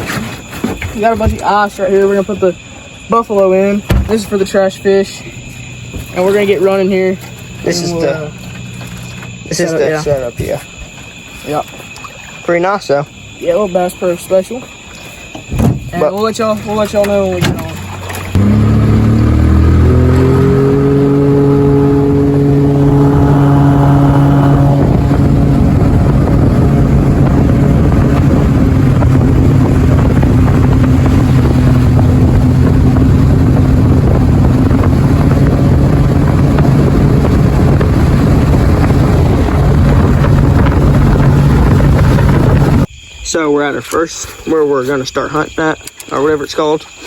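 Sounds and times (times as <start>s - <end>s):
jet outboard motor speeding up: 0.0s - 13.0s, 16.0s - 42.9s
constant rushing noise: 0.0s - 42.9s.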